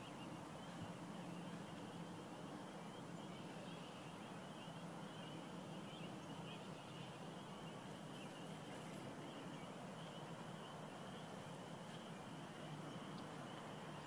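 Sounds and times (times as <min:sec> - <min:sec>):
distant frogs calling: 0:00.0 - 0:14.0
low steady hum: 0:00.0 - 0:14.0.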